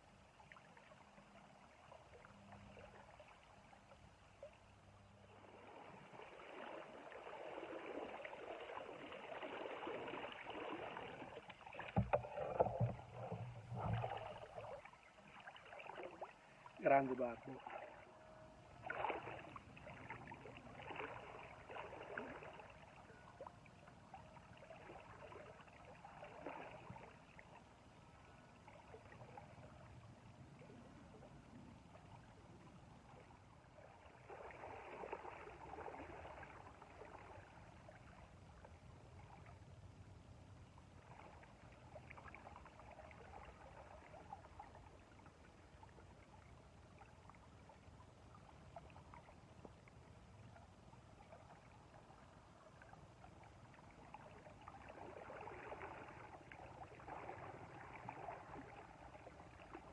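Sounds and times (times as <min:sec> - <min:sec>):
flowing river water: 0:00.0 - 0:59.9
water splashing and gurgling: 0:00.0 - 0:59.9.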